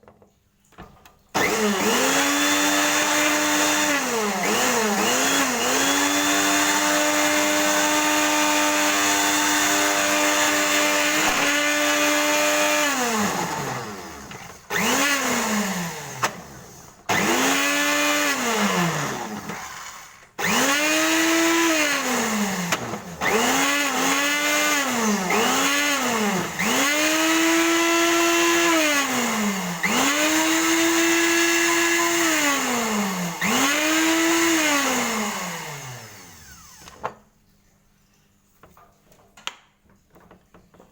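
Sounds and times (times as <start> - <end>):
power tool motor whining: 1.4 - 37.2.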